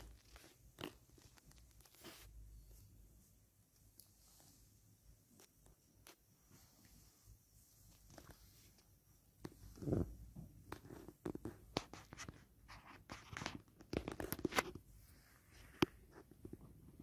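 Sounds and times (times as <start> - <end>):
fabric rustling and scratching: 0.0 - 3.4, 4.1 - 17.0.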